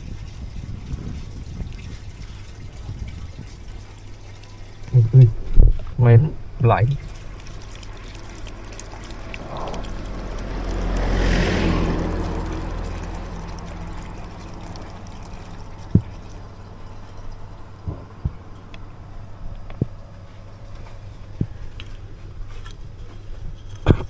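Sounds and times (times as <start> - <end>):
fuel pouring through a funnel: 0.0 - 23.9
steady low hum: 0.0 - 24.0.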